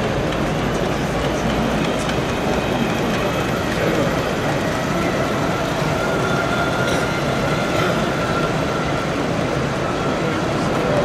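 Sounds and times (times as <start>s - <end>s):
busy hall background noise: 0.0s - 11.0s
model train running with faint whine: 0.0s - 11.0s.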